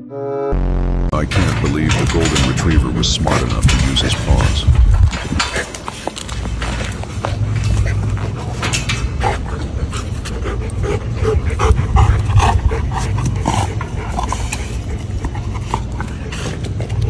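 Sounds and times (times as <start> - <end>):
steady low rumble: 0.5 - 17.0
dog panting: 2.1 - 17.0.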